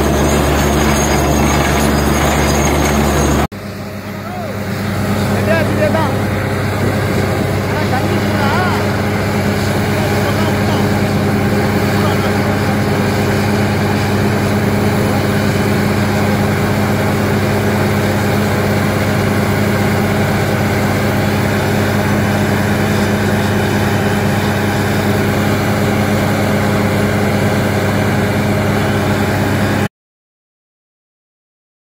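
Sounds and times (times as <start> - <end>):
drilling rig engine hum: 0.0 - 29.9.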